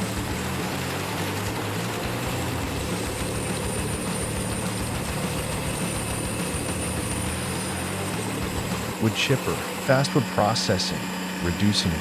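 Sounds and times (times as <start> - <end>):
wood chipper running: 0.0 - 12.0.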